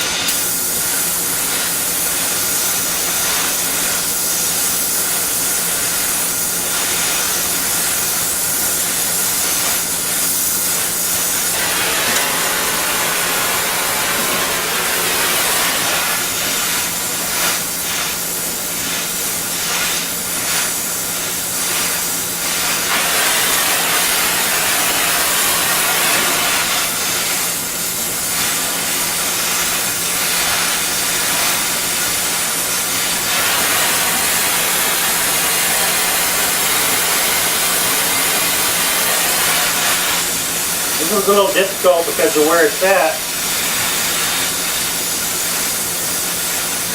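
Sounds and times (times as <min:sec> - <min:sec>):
gas torch flame hissing: 0:00.0 - 0:46.9.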